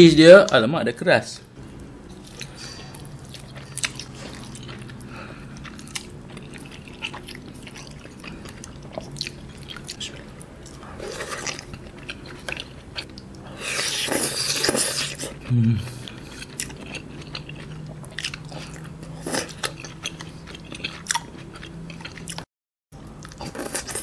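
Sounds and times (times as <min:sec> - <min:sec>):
person chewing wetly: 0:01.7 - 0:24.0.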